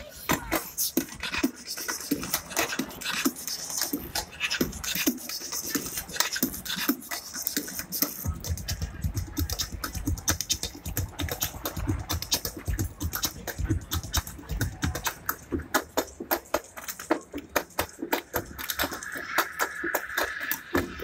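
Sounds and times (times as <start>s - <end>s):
percussion strikes and clicks: 0.2s - 21.0s.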